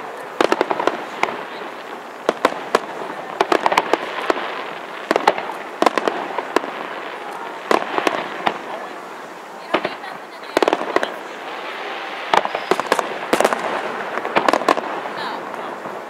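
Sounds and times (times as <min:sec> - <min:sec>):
continuous wash of noise: 0:00.0 - 0:16.0
fireworks bursts and bangs: 0:00.0 - 0:16.0.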